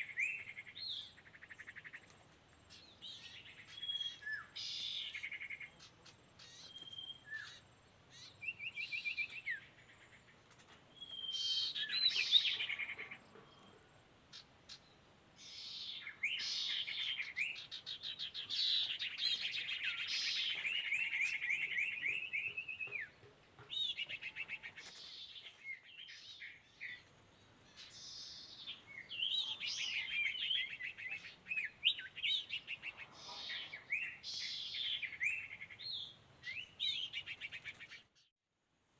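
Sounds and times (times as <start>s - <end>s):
bird chirping song: 0.0s - 38.3s.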